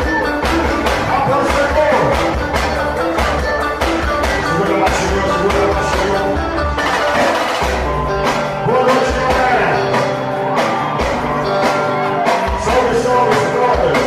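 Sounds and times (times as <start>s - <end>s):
song with singing over beat: 0.0s - 14.0s.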